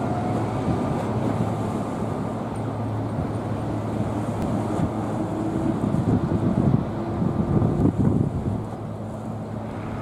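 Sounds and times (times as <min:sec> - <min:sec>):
boat engine droning: 0:00.0 - 0:10.0
wind buffeting microphone: 0:00.0 - 0:10.0.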